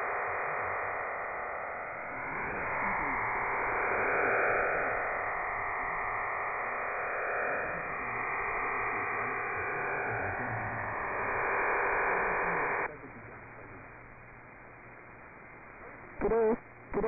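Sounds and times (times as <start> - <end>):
radio band static: 0.0 - 17.0.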